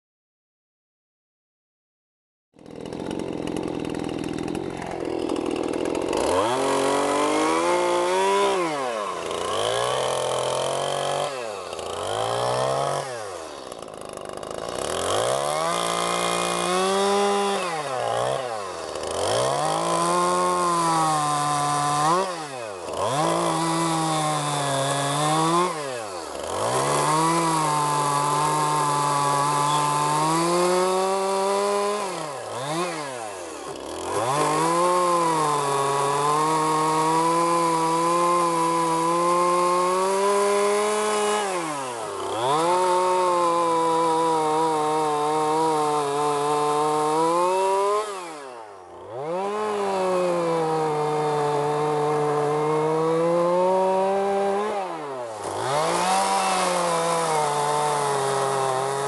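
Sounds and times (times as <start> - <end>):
chainsaw cutting wood: 2.6 - 59.0.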